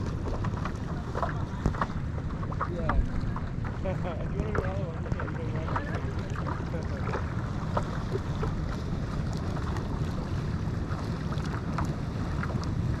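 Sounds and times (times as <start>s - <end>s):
water splashes and drips: 0.0s - 13.0s
wind rumbling on microphone: 0.0s - 13.0s.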